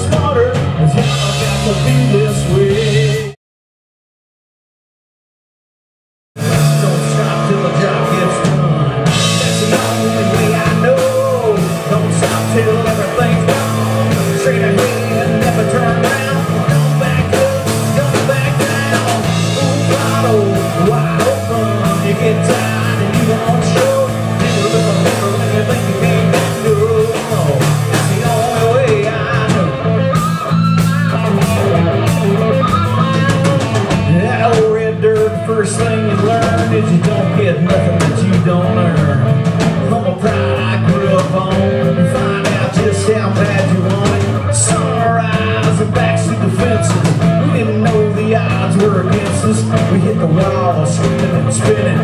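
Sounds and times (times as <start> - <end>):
rock band playing: 0.0 - 3.4, 6.4 - 52.0
wavering electric guitar lead: 0.0 - 3.4, 6.4 - 52.0.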